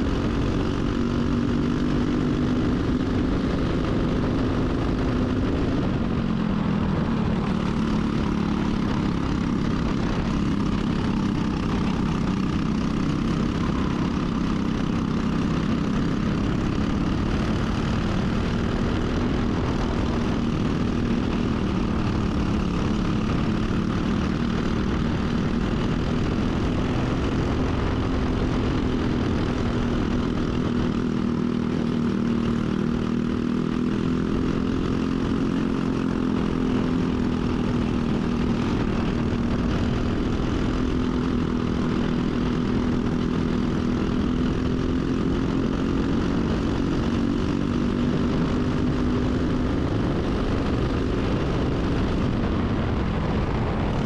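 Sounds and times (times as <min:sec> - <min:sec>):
kart engine at high revs: 0:00.0 - 0:54.0.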